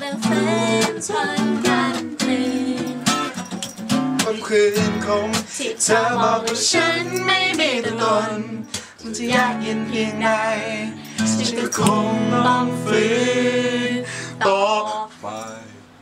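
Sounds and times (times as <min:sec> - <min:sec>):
person singing: 0:00.0 - 0:03.4, 0:04.2 - 0:15.8
guitar accompaniment: 0:00.0 - 0:16.0.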